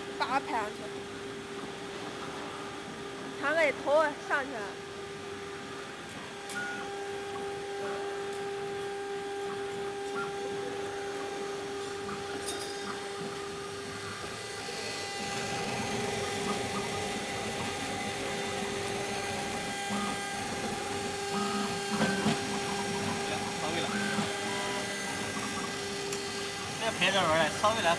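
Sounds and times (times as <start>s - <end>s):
router spindle motor whining: 0.0s - 27.9s.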